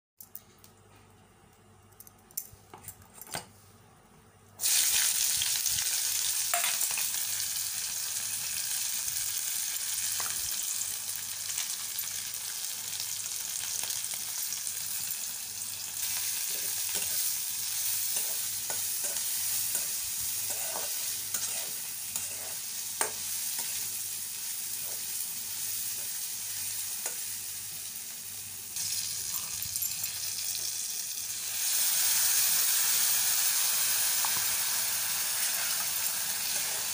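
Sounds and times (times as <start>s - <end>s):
vegetables sizzling in hot oil: 4.6s - 36.9s.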